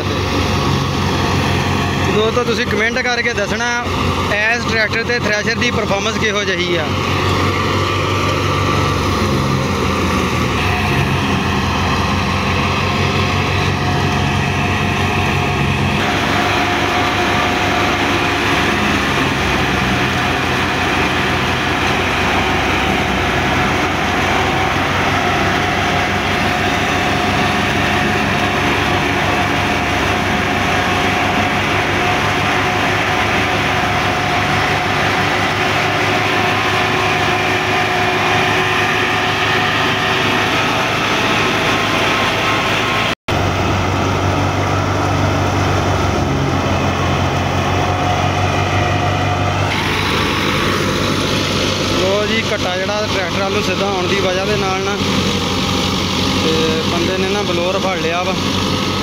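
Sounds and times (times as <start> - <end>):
threshing drum rattle and rush: 0.0 - 59.0
tractor diesel engine drone: 0.0 - 59.0.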